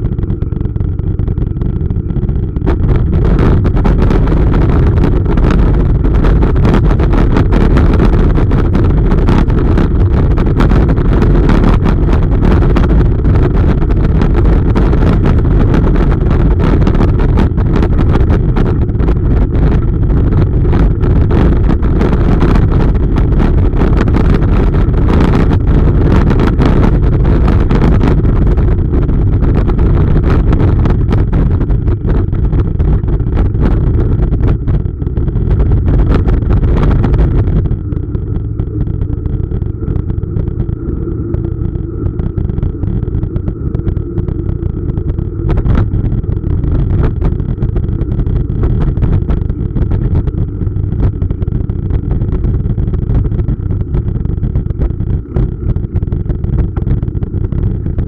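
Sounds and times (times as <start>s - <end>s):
wind: 0.0s - 51.9s.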